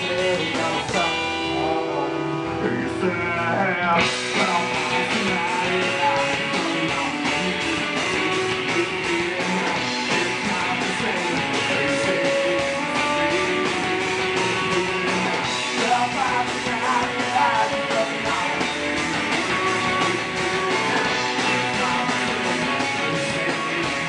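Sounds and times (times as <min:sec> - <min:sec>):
punk rock band playing live: 0:00.0 - 0:24.0.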